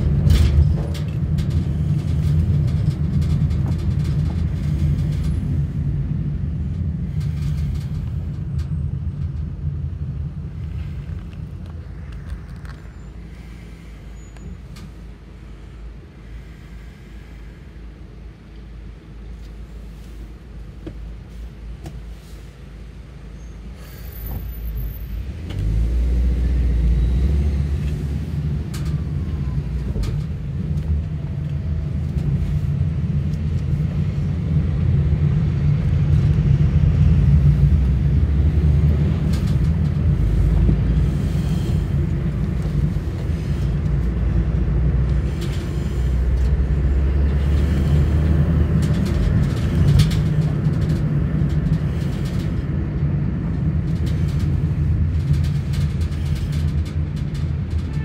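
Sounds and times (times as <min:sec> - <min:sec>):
car engine: 0:00.0 - 0:58.0
road rumble: 0:00.0 - 0:58.0.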